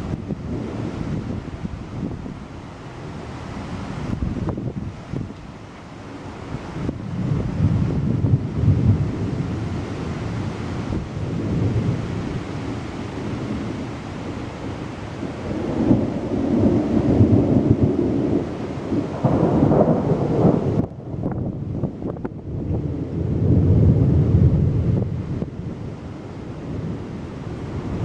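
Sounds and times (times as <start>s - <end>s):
thunder rumbling: 0.0s - 2.6s, 6.5s - 28.0s
steady rain: 0.0s - 28.0s.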